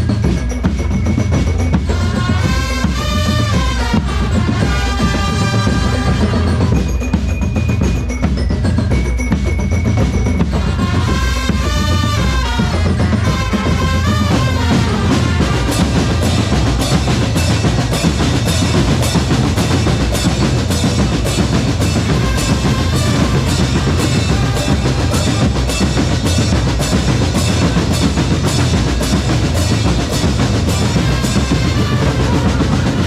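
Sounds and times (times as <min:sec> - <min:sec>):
snare and bass drums: 0:00.0 - 0:33.0.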